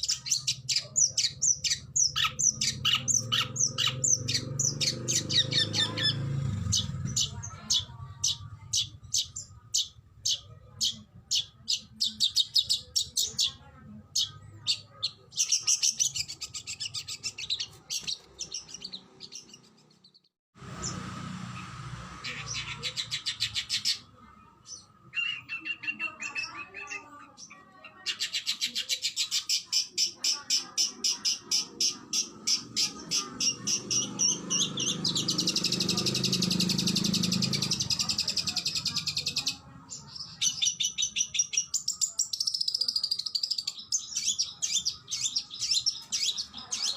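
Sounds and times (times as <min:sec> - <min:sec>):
bird singing rapid high notes: 0:00.0 - 0:46.9.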